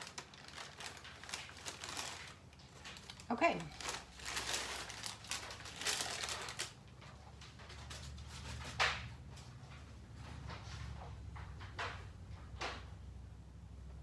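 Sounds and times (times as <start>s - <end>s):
paper and cloth rustling: 0.0s - 11.7s.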